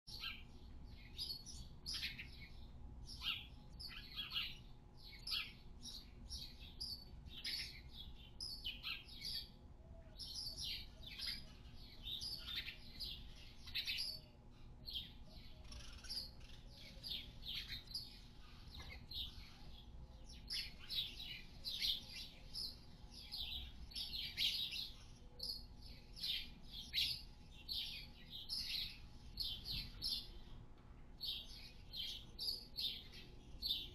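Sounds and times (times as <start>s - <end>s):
faint steady hum: 0.1s - 33.9s
small birds chirping: 0.1s - 33.9s.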